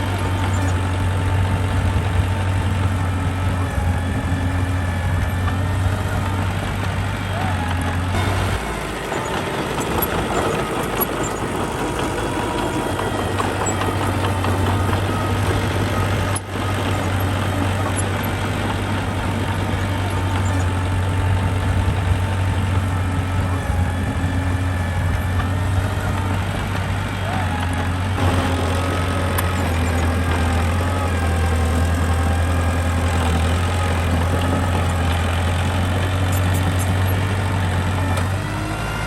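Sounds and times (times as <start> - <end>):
diesel engine humming: 0.0 - 39.0.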